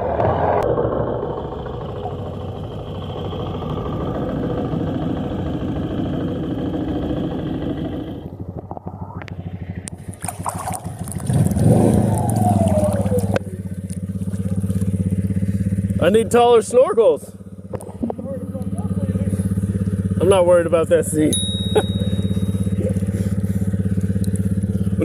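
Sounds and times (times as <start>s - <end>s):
quad engine running: 0.0s - 25.0s.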